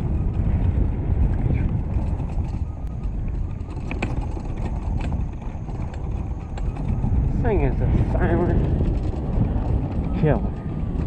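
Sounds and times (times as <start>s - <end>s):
tyres on dirt: 0.0s - 11.0s
wind rumble on microphone: 0.0s - 11.0s.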